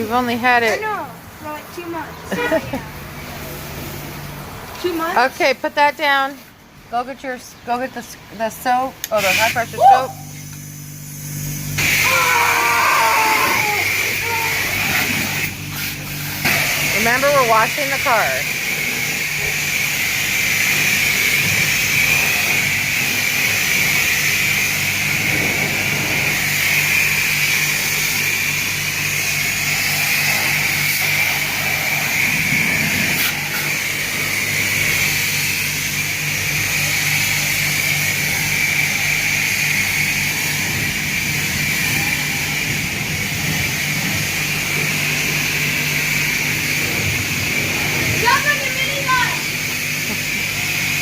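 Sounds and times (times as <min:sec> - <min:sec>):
pressure wand spraying: 0:09.0 - 0:51.0.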